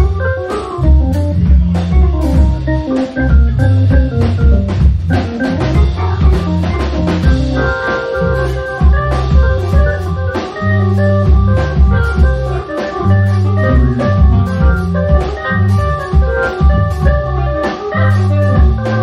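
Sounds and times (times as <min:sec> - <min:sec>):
deep bass line: 0:00.0 - 0:19.0
drums keeping steady beat: 0:00.0 - 0:19.0
sustained organ chords: 0:00.0 - 0:19.0.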